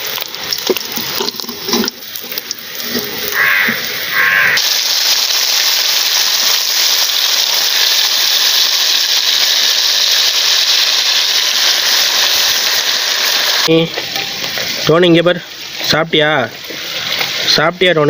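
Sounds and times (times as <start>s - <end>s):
hot oil sizzling in a frying pan: 0.0s - 18.0s.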